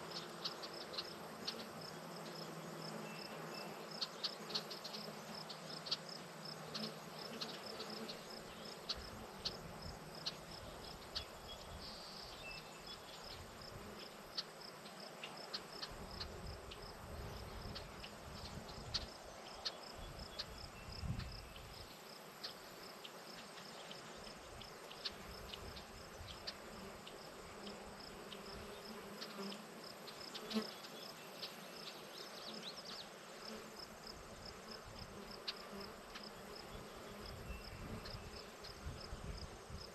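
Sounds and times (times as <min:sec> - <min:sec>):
faint steady hiss: 0:00.0 - 0:39.9
insect chirping: 0:00.0 - 0:39.9.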